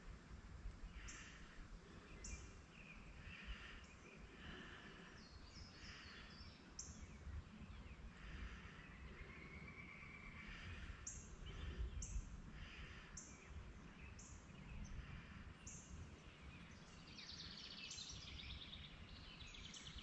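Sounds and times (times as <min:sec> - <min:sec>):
faint chirping calls: 0:00.9 - 0:20.0.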